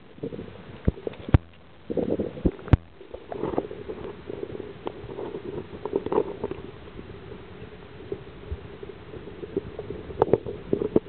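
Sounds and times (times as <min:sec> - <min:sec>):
underwater rumble of moving water: 0:00.0 - 0:11.0.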